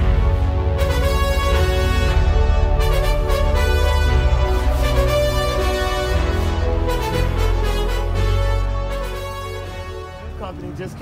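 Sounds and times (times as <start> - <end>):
music with heavy bass: 0.0 - 10.6.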